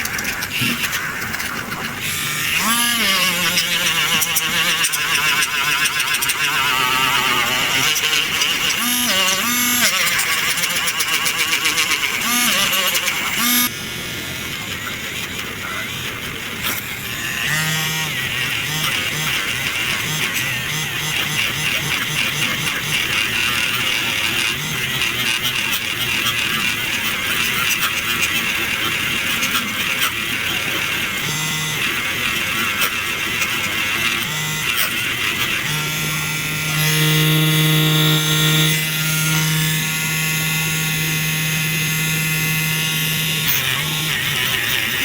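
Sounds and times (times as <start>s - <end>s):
small electric motor whirring: 0.0s - 45.0s.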